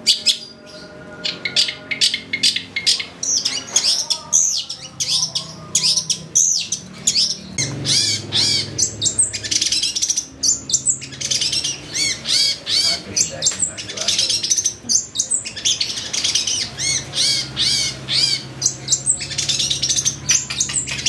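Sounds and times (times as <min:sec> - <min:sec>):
low sustained bird notes: 0:00.0 - 0:21.0
shrike chirping: 0:00.0 - 0:21.0.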